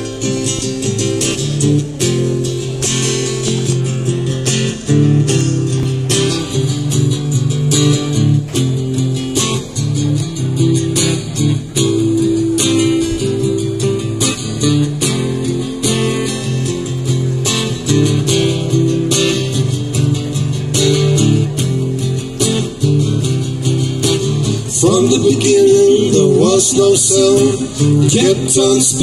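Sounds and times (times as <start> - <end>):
strummed acoustic guitar: 0.0 - 29.0.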